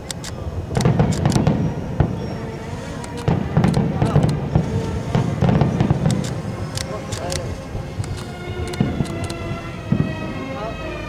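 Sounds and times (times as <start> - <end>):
fireworks bangs and crackles: 0.0 - 10.9
heavy booming firework bursts: 0.1 - 11.0.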